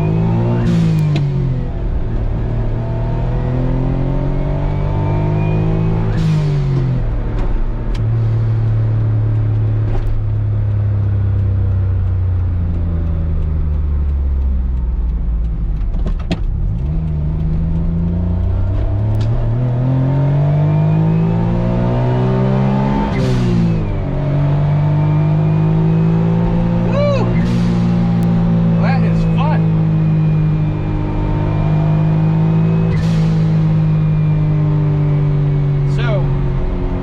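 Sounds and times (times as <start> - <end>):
turbocharged car engine revving: 0.0 - 37.0.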